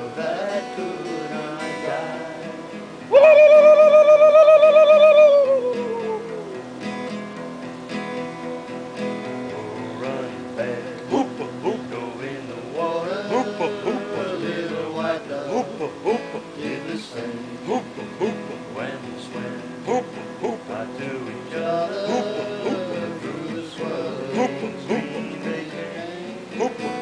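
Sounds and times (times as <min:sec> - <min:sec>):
person singing: 0:00.0 - 0:06.7, 0:09.5 - 0:27.0
acoustic guitar strumming: 0:00.0 - 0:27.0.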